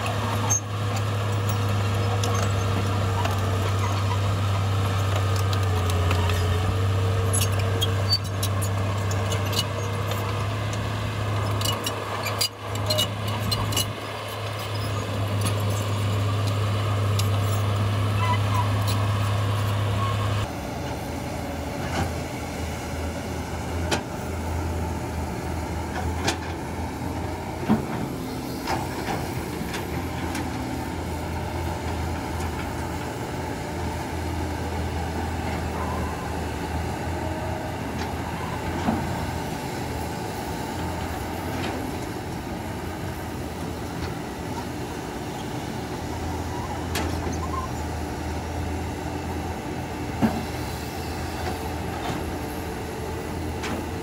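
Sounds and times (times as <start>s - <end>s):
bulldozer diesel engine drone: 0.0s - 54.0s.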